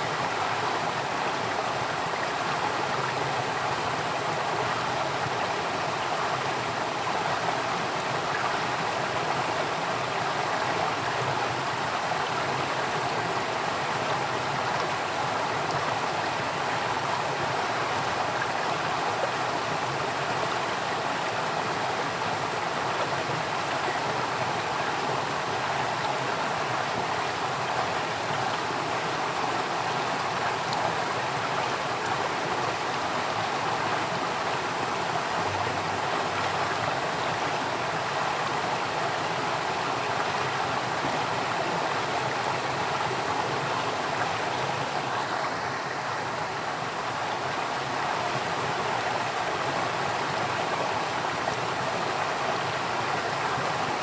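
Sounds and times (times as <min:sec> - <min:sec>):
stream flowing steadily: 0:00.0 - 0:54.0.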